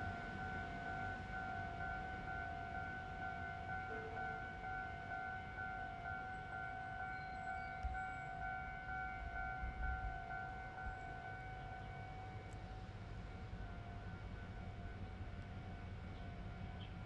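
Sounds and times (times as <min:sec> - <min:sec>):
level-crossing warning alarm: 0:00.0 - 0:17.0.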